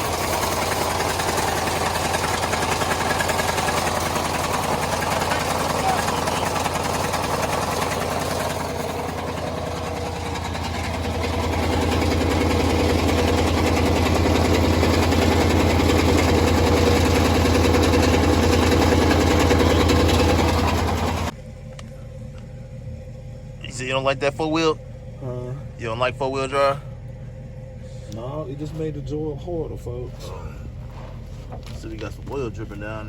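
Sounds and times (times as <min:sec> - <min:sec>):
engine running with fast knocking: 0:00.0 - 0:33.0.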